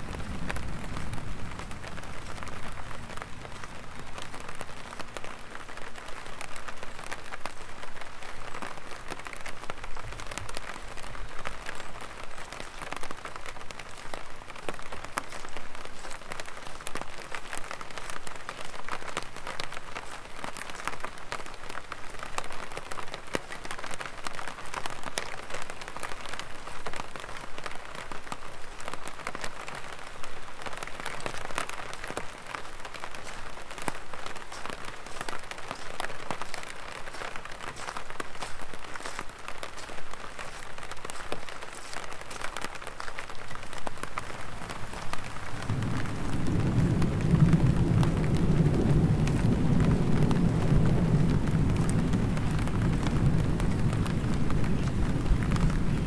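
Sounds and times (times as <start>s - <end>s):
light rain on an umbrella: 0.0s - 56.0s
footsteps on wet gravel: 0.1s - 21.9s, 28.8s - 56.0s.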